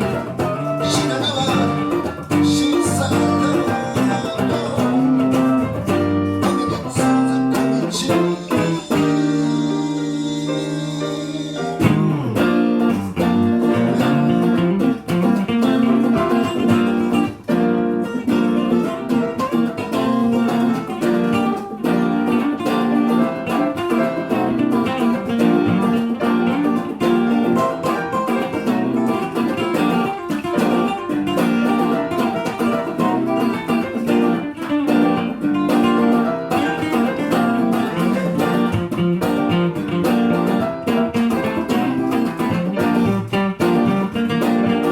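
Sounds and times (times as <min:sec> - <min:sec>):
live band guitars playing: 0:00.0 - 0:44.9.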